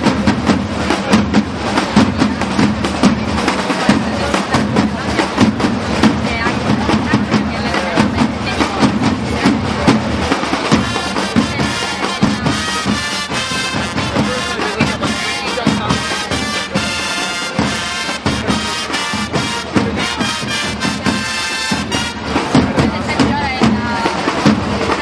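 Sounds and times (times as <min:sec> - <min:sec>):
drums beating steadily: 0:00.0 - 0:25.0.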